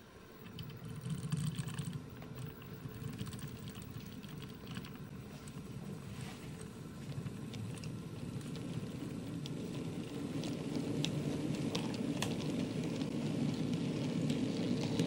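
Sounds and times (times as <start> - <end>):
model train wheels rumbling: 0.4 - 15.0
wheels clicking on rails: 0.4 - 15.0.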